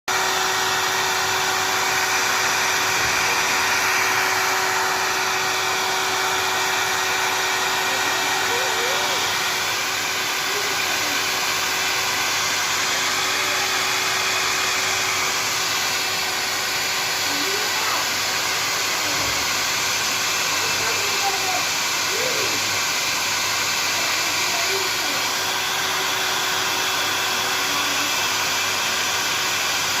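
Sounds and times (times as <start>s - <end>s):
hair dryer running: 0.1s - 30.0s.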